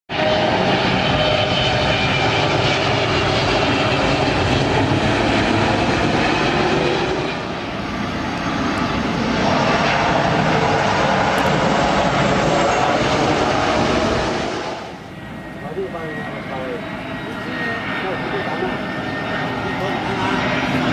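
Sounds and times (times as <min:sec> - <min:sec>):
jet engine whine: 0:00.1 - 0:20.9
jet engines roaring: 0:00.1 - 0:20.9.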